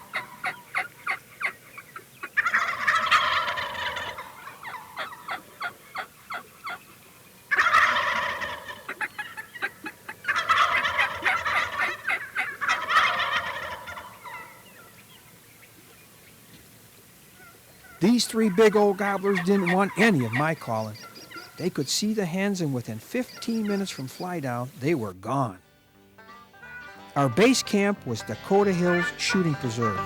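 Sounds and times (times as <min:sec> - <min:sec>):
short sharp turkey calls: 0:00.0 - 0:25.6, 0:27.2 - 0:30.0
turkeys gobbling: 0:00.0 - 0:25.6, 0:26.2 - 0:30.0.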